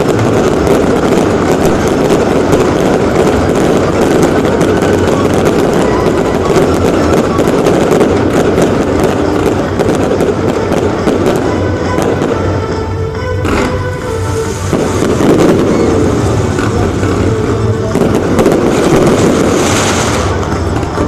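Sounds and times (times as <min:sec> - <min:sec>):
fireworks banging and crackling: 0:00.0 - 0:21.0.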